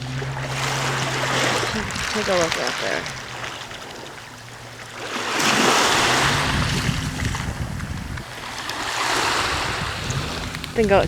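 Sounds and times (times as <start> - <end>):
wind on microphone: 0.0 - 4.0, 5.4 - 11.0
water washing on shoreline: 0.0 - 11.0.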